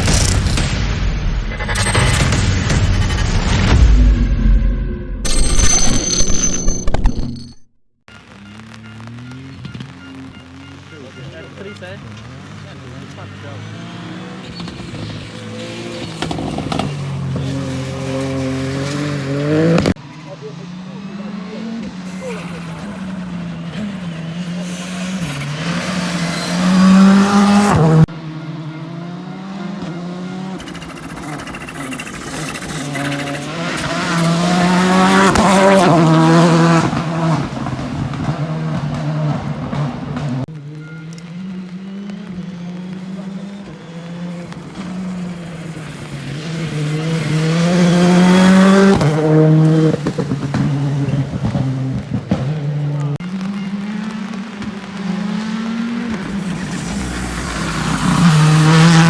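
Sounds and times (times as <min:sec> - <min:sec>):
distant rally engine shifting gears: 0:08.6 - 0:59.0
rally car passing at high revs: 0:08.6 - 0:59.0.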